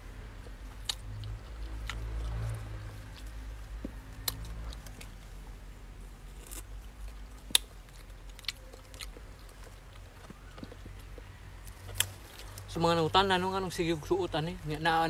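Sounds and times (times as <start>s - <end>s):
low steady rumble: 0.0s - 15.0s
person chewing: 0.4s - 12.8s.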